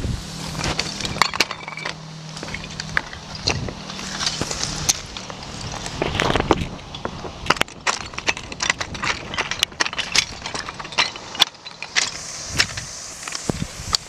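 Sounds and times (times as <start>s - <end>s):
footsteps on loose stone slabs: 0.5s - 14.0s
stones clinking together: 0.5s - 14.0s.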